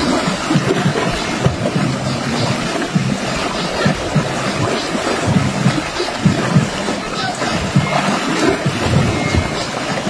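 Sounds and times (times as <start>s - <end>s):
sea water lapping on rocks: 0.0s - 10.0s.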